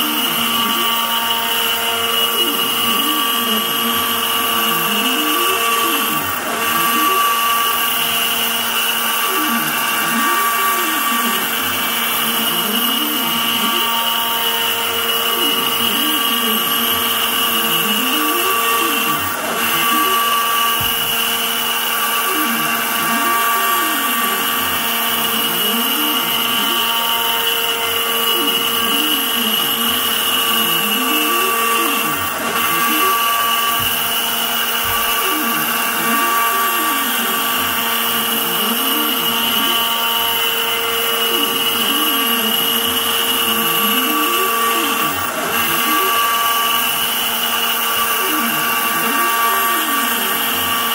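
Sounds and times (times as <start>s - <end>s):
router spindle high whine: 0.0s - 50.9s
stepper motors rising and falling: 0.0s - 50.9s.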